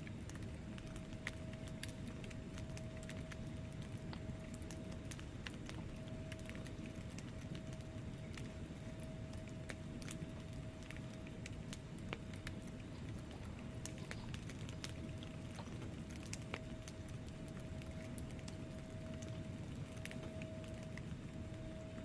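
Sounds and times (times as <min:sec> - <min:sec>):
faint steady whine: 0:00.0 - 0:22.0
low rumble of flame: 0:00.0 - 0:22.0
wood fire crackling: 0:00.0 - 0:22.0.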